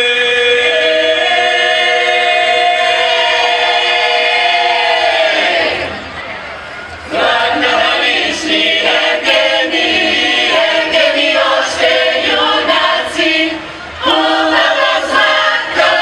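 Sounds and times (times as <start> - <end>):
choir singing a cappella: 0.0 - 6.0, 7.0 - 16.0.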